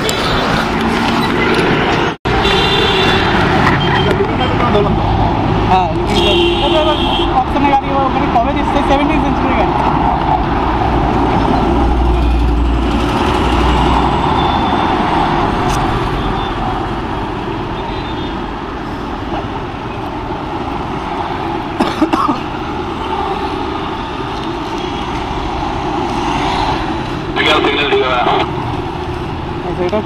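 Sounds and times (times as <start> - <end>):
road traffic passing: 0.0 - 30.0
vehicle rumble: 0.0 - 30.0.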